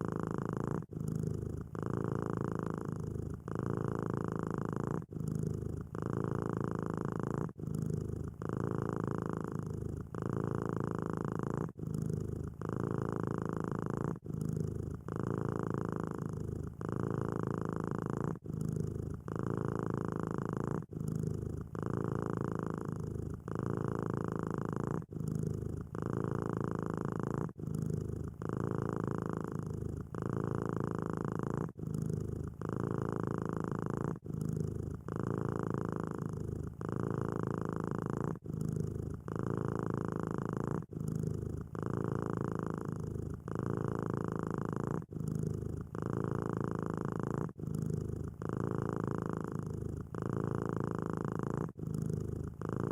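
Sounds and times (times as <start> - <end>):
cat purring: 0.0 - 52.9.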